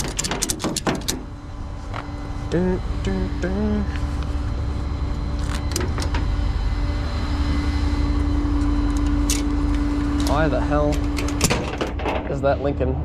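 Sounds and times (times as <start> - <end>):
tow truck engine rumbling: 0.0 - 13.0.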